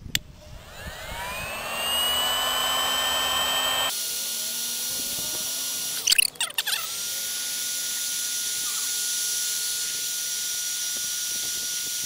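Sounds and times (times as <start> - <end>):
hot air gun blower whirring: 0.3 - 6.1, 6.8 - 12.0.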